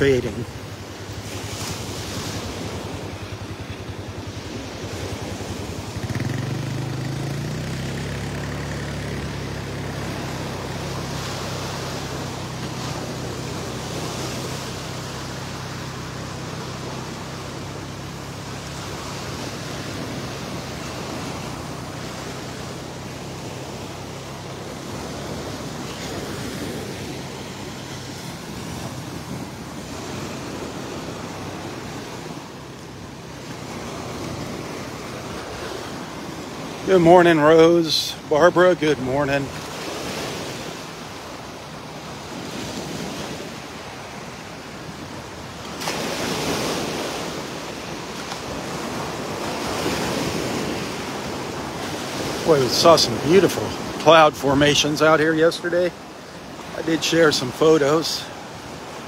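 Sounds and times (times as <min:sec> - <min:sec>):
low engine hum: 0:00.0 - 0:59.0
surf breaking on beach: 0:00.0 - 0:59.0.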